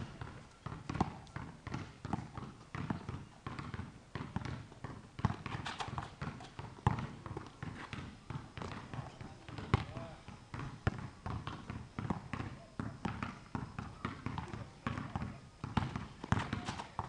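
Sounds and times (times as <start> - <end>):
basketball bouncing on concrete: 0.0 - 17.0.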